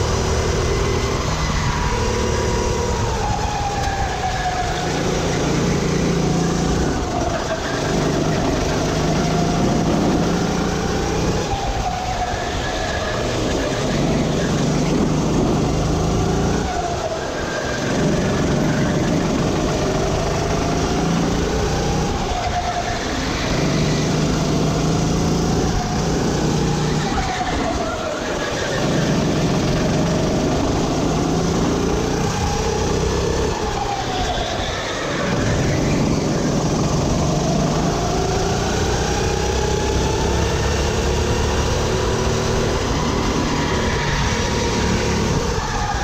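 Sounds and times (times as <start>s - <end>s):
kart engine running hard: 0.0s - 46.0s.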